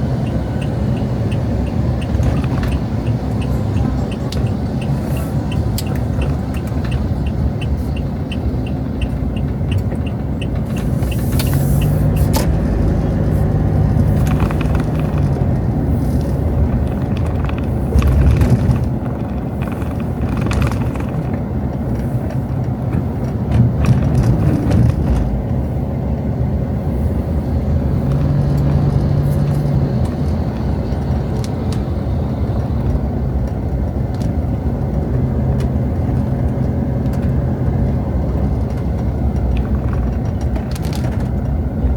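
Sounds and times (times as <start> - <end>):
cars passing: 0.0 - 41.9.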